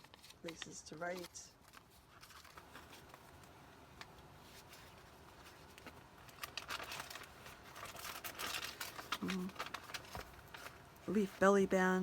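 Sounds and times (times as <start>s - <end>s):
paper pages turning: 0.0s - 11.9s
soft paper rustling: 0.0s - 12.0s.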